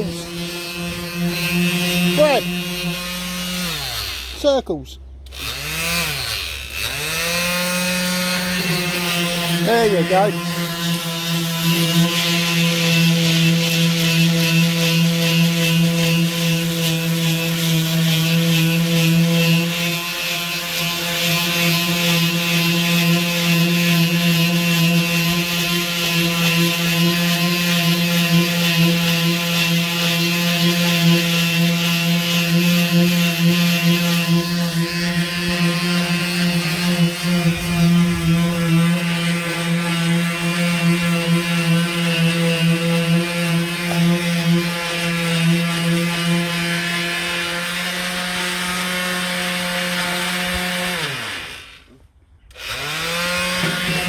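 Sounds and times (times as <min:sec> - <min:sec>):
electric sander running: 0:00.0 - 0:54.0.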